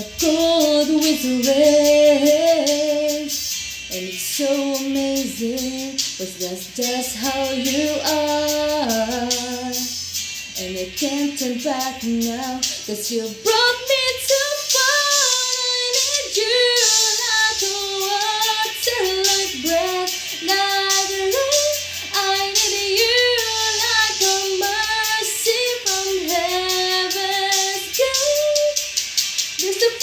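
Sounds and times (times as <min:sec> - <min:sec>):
backing music: 0:00.0 - 0:30.0
woman singing a ballad: 0:00.0 - 0:30.0.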